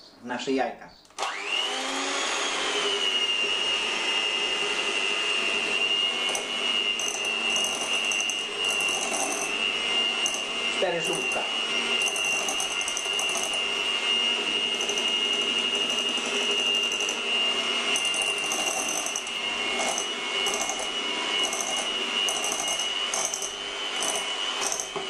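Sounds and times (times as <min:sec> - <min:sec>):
electric hand mixer whining: 0:01.2 - 0:25.0.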